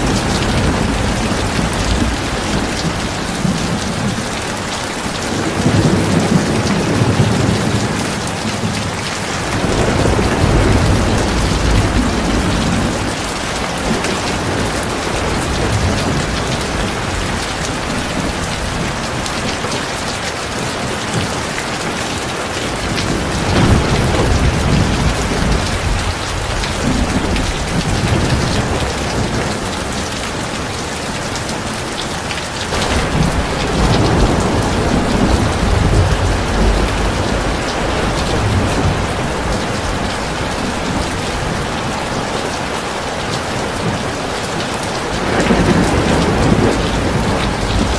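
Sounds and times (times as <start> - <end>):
low thunder rumbling: 0.0 - 19.6, 22.6 - 30.4, 32.7 - 47.9
heavy rain falling: 0.0 - 47.9.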